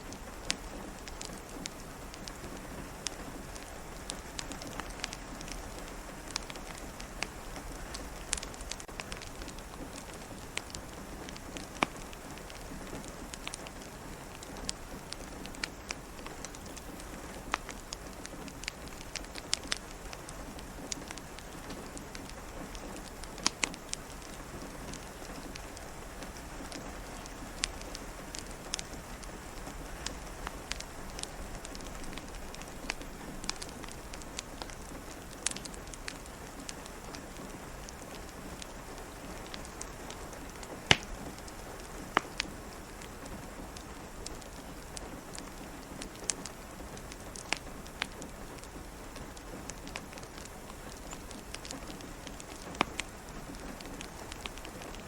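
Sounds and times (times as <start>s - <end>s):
steady rain pattering: 0.0s - 55.0s
wood fire crackling and popping: 0.0s - 55.0s.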